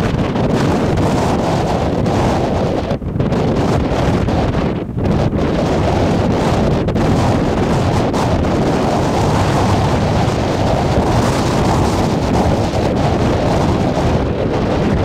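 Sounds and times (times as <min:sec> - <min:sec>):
heavy surf: 0:00.0 - 0:15.0
wind buffeting microphone: 0:00.0 - 0:15.0.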